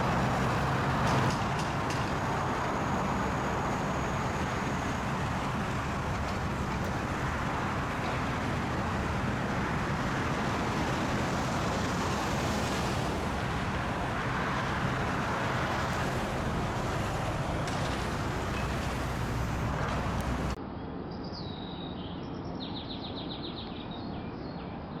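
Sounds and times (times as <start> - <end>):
road traffic noise: 0.0 - 20.6.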